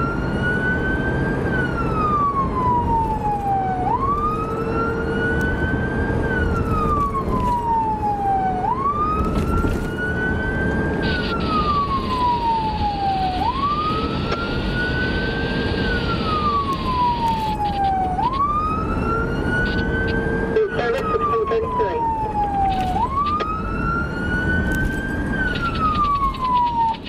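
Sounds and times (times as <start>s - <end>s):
road noise: 0.0s - 27.0s
siren wailing: 0.0s - 27.0s.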